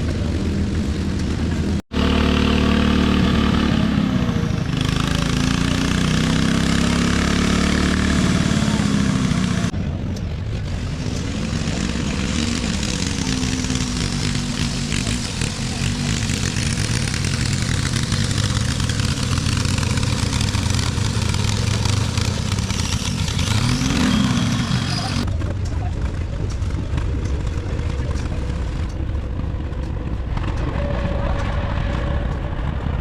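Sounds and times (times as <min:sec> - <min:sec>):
tractor engine running: 0:00.0 - 0:33.0.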